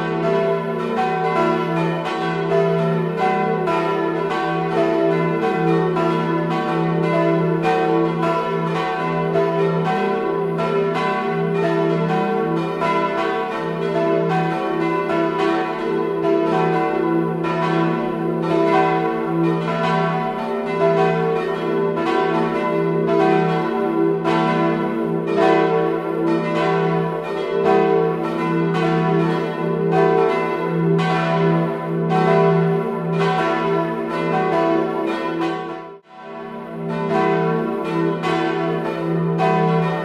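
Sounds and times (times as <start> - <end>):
church bells ringing: 0.0 - 40.0.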